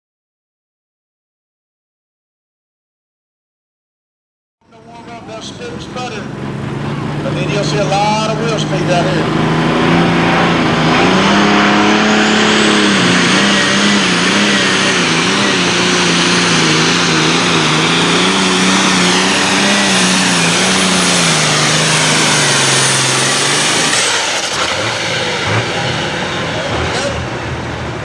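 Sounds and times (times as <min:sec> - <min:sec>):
tractor engine at full throttle: 0:04.7 - 0:28.0.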